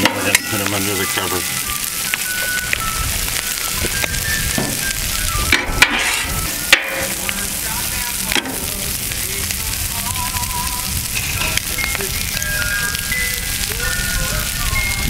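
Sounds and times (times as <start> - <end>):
food sizzling on griddle: 0.0 - 15.0.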